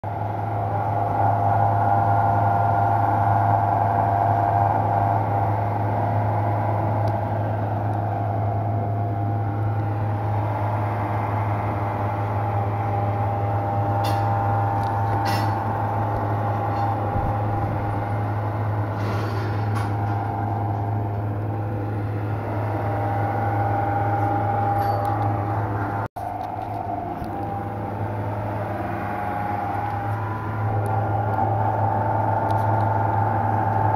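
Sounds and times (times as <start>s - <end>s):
machinery low drone: 0.0s - 33.9s
wavering higher hum: 0.0s - 33.9s.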